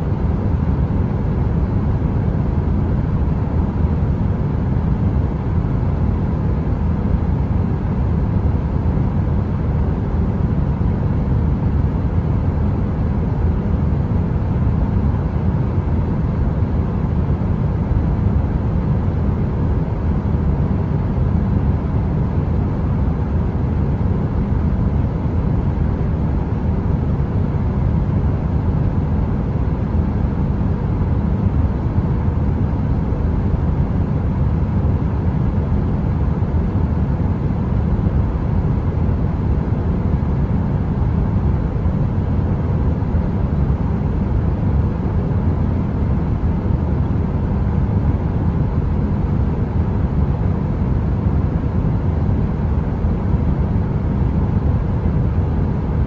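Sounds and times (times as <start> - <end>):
heater rumbling drone: 0.0 - 56.0.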